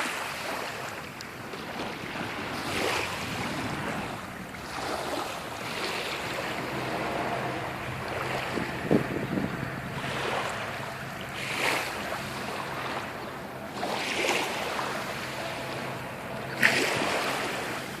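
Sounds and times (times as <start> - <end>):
sea waves washing in: 0.0 - 18.0
wind on microphone: 0.6 - 18.0.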